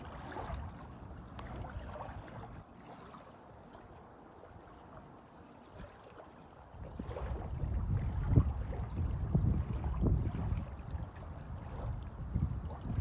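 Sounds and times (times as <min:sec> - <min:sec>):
low rumble of wind: 0:00.0 - 0:02.8, 0:03.8 - 0:13.0
small waves lapping: 0:00.0 - 0:13.0.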